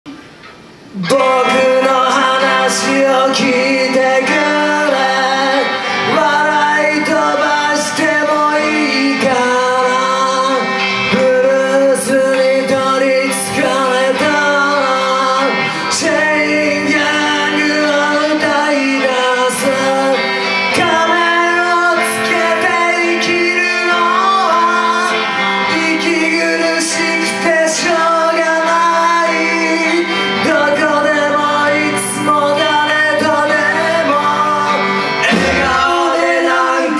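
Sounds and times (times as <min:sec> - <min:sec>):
bass guitar: 0:00.1 - 0:36.9
drums: 0:00.1 - 0:36.9
electric guitar: 0:00.1 - 0:36.9
man singing: 0:00.9 - 0:36.9.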